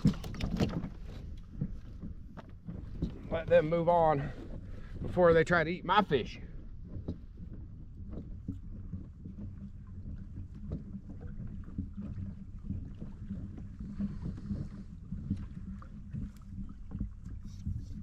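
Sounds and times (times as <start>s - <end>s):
steady low rumble: 0.0s - 18.0s
water sloshing against kayak hull: 0.0s - 18.0s.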